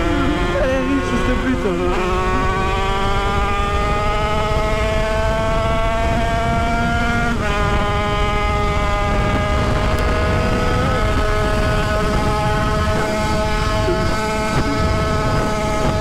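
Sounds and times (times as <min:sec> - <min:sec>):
two-stroke motorcycle engine revving: 0:00.0 - 0:16.0
wind rumble on microphone: 0:00.0 - 0:16.0.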